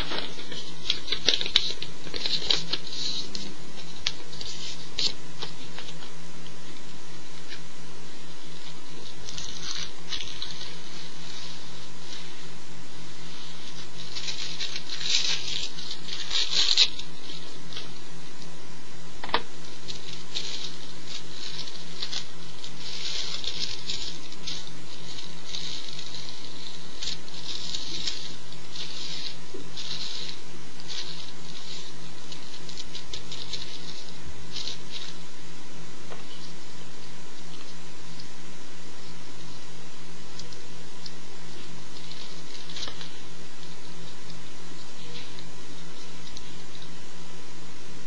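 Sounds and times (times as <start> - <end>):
dry herb and paper crackling: 0.0 - 48.0
low electrical hum: 0.0 - 48.0.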